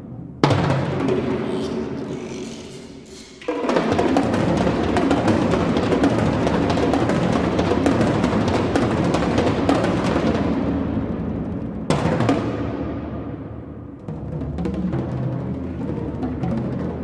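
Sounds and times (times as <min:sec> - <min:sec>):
percussion ensemble drumming: 0:00.4 - 0:10.8, 0:11.9 - 0:13.0, 0:14.1 - 0:17.0.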